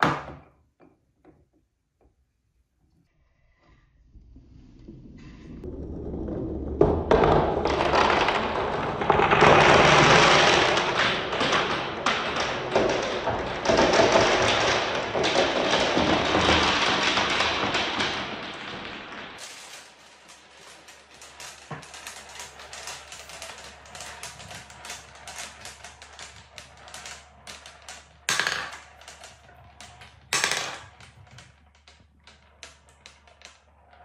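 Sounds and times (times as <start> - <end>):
balls rolling down wooden marble run: 0.0 - 1.6, 4.6 - 34.0.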